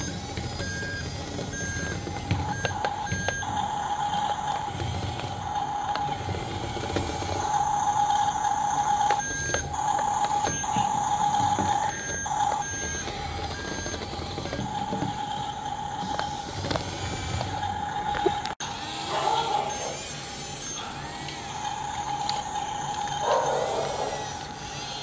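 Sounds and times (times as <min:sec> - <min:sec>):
steady high beeping tone: 0:00.0 - 0:24.4
small track motors whirring: 0:00.0 - 0:25.0.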